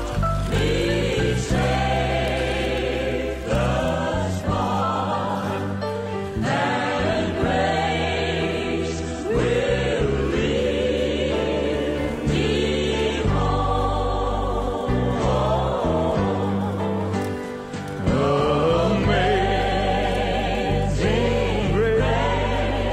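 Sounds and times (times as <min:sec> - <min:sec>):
choir singing a gospel hymn: 0:00.0 - 0:22.9.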